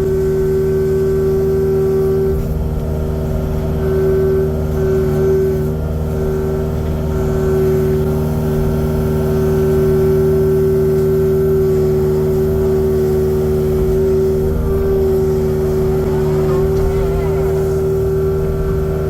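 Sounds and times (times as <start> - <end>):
excavator diesel engine hum: 0.0 - 19.0
steady engine whine: 0.0 - 19.0.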